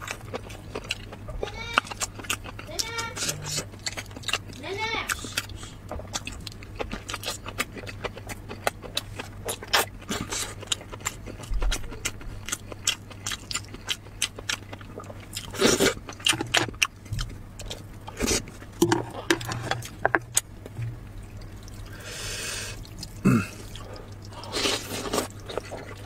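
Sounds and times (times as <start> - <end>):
chewing and wet mouth sounds: 0.0 - 26.0.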